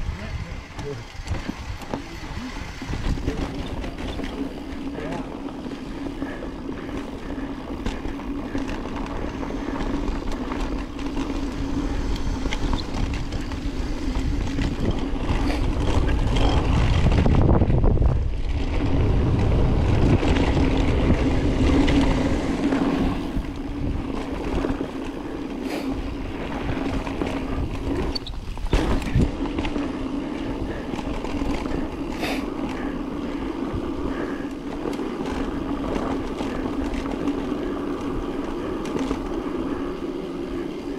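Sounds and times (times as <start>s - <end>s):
mountain bike tyre and drivetrain noise: 0.0s - 40.9s.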